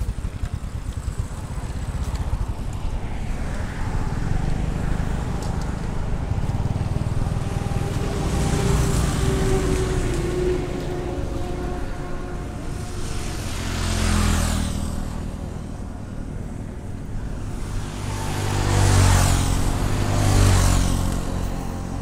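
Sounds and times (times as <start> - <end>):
motorbike engine passing: 0.0 - 22.0.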